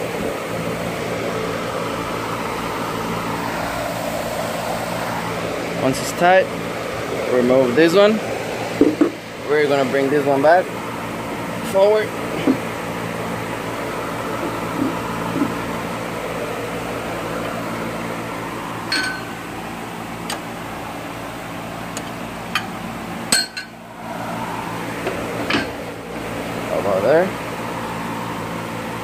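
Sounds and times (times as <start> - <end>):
workshop hum: 0.0 - 29.0.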